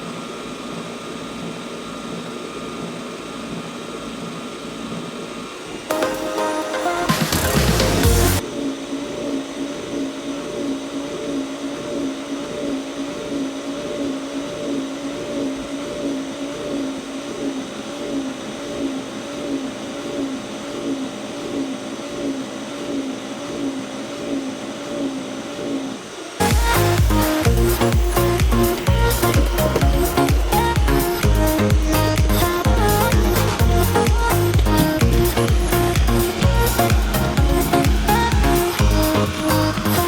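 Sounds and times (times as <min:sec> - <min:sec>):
robot vacuum motor hum: 0:00.0 - 0:40.0.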